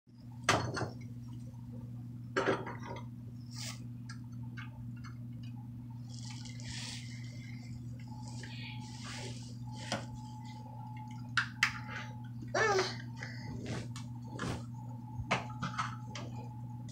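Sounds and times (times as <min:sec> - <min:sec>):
steady low hum: 0:00.1 - 0:16.9.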